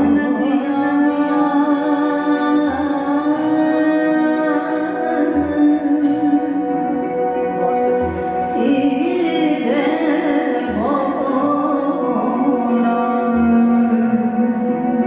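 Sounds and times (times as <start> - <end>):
woman singing ornamented melody: 0.0 - 7.4, 8.0 - 15.0.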